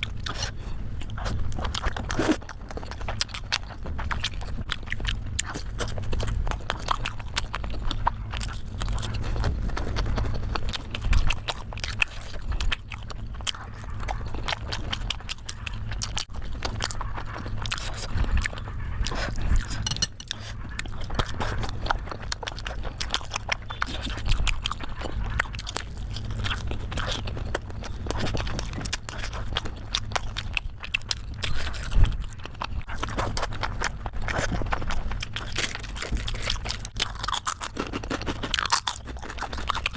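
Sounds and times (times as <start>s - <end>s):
low hum: 0.0s - 39.9s
mouth and lip clicks: 0.0s - 39.9s
person chewing wetly: 0.0s - 39.9s.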